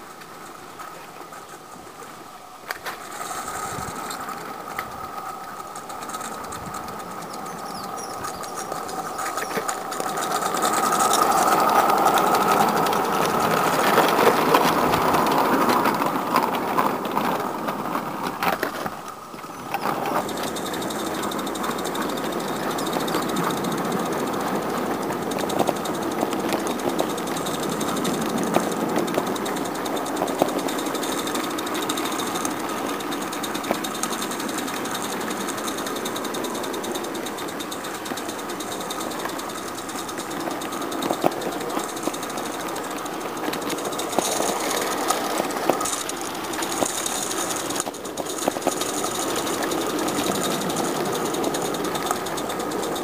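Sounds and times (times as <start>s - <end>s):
steam hissing: 0.0s - 53.0s
steam locomotive exhaust beats: 0.0s - 53.0s
sharp clicks: 2.6s - 53.0s.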